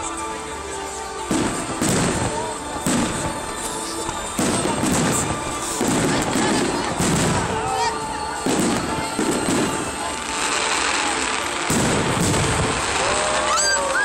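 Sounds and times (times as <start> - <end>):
background music: 0.0 - 14.0
fireworks bangs and crackling: 0.0 - 14.0.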